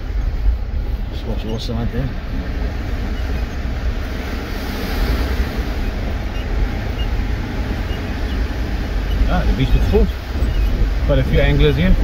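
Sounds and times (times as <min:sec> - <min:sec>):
vehicle driving on sandy track: 0:00.0 - 0:12.0.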